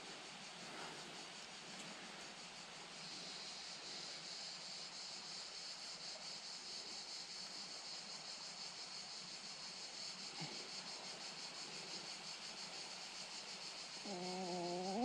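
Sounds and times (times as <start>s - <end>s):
faint background hiss: 0.0s - 15.0s
insects chirring: 0.0s - 15.0s.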